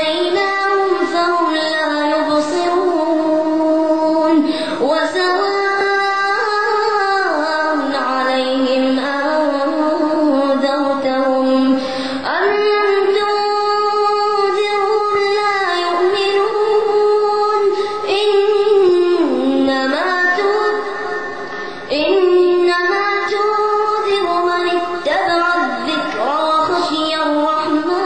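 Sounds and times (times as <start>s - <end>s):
boy chanting into a microphone: 0.0s - 28.0s.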